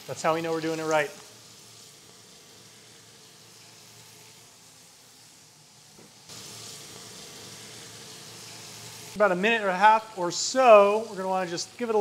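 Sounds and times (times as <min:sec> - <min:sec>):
steaks sizzling in butter: 0:00.0 - 0:12.0.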